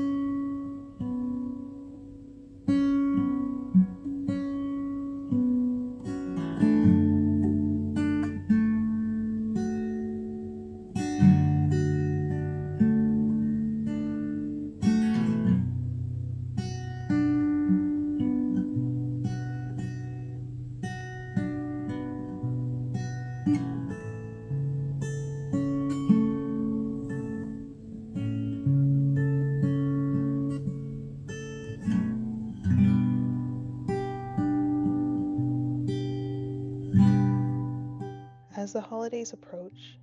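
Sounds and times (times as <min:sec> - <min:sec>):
acoustic guitar music: 0:00.0 - 0:40.0.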